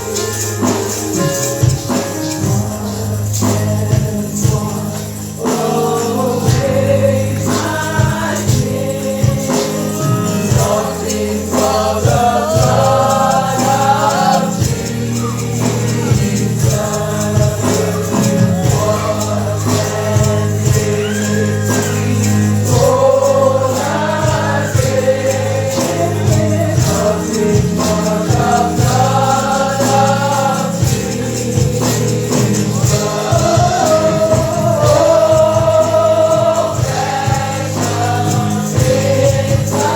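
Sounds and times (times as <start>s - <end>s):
group of voices singing: 0.0s - 39.9s
rhythmic percussion beat: 0.0s - 39.9s
steady bass notes: 0.0s - 39.9s.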